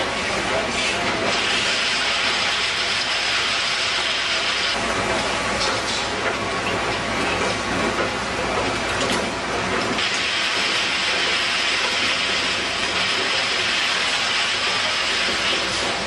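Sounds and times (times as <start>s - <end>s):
machine clatter: 1.0s - 16.0s.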